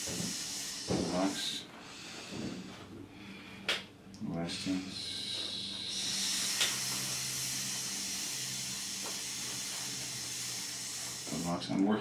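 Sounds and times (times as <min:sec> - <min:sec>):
breath hissing out: 0:00.0 - 0:02.8, 0:04.5 - 0:11.6.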